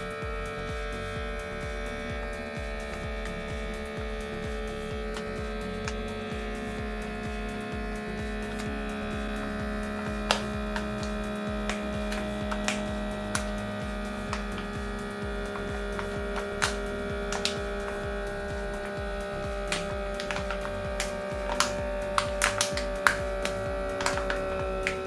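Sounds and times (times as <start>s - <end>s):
vacuum pump motor hum: 0.0s - 25.0s.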